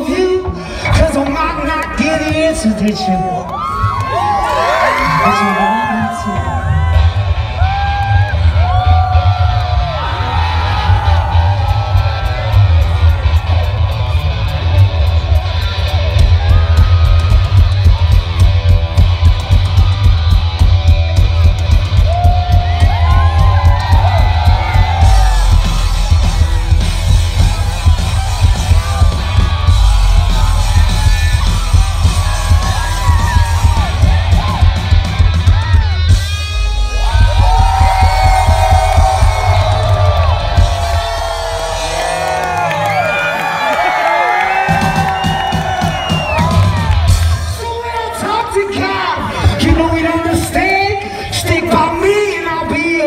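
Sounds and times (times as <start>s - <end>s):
live rock band playing: 4.9s - 43.6s, 44.2s - 52.9s.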